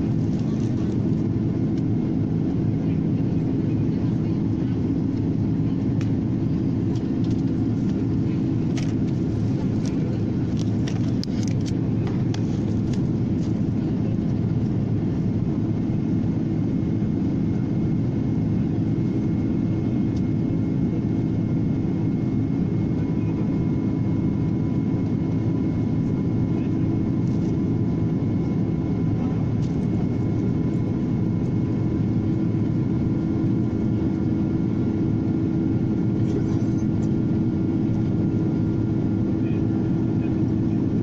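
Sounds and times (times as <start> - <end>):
airliner cabin rumble: 0.0 - 41.0.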